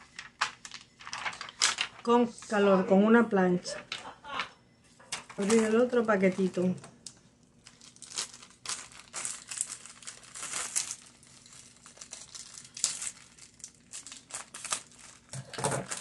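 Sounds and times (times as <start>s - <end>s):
package wrapping crinkled and torn: 0.0s - 2.0s, 5.2s - 16.0s.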